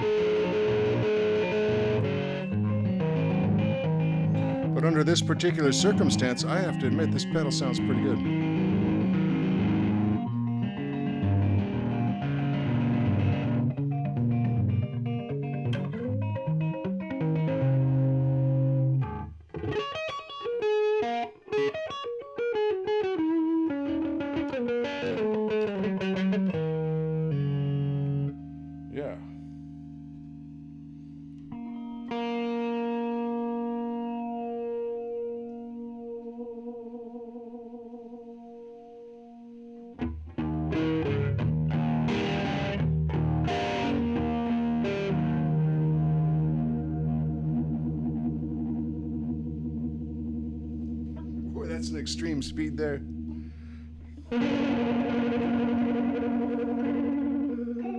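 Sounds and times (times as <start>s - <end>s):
electric guitar with flanger: 0.0s - 57.9s.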